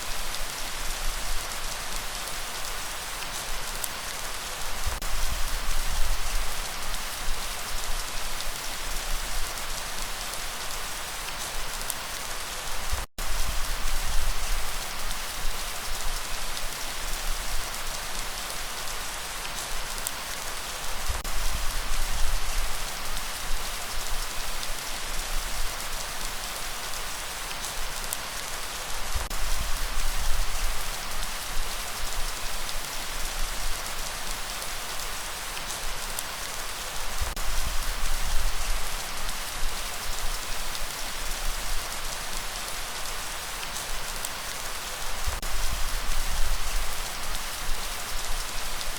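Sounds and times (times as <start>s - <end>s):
rain pattering on surfaces: 0.0s - 48.9s.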